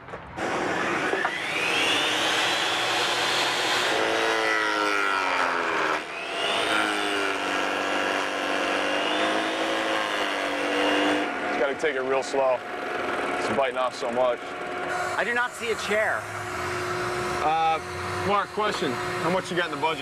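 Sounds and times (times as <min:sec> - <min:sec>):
table saw cutting wood: 0:00.4 - 0:20.0.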